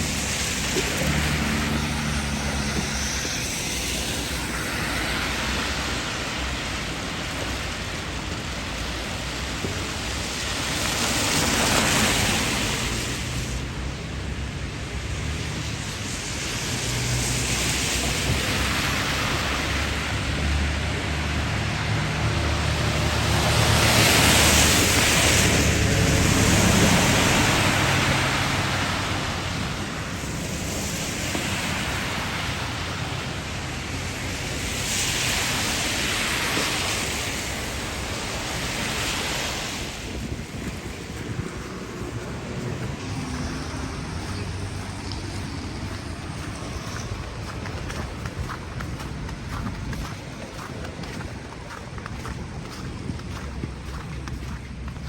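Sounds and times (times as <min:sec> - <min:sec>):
wind gusting over microphone: 0:00.0 - 0:55.0.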